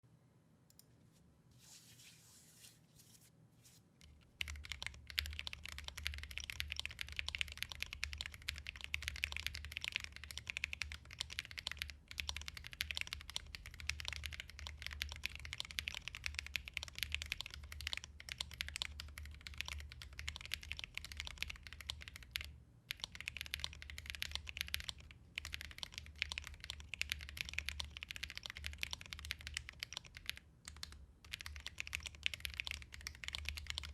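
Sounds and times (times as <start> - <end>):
mechanical keyboard typing: 4.3 - 33.9.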